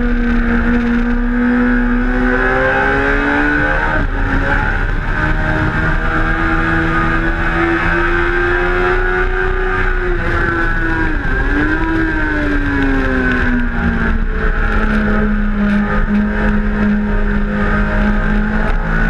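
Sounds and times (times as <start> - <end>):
motorcycle engine accelerating: 0.0 - 19.0
wind noise: 0.0 - 19.0.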